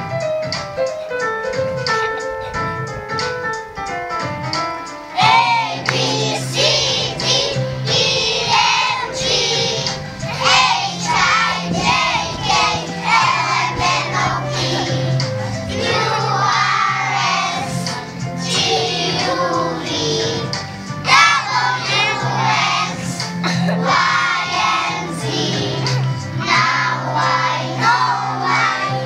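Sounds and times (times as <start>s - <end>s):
keyboard accompaniment: 0.0s - 29.0s
children singing: 5.2s - 29.0s.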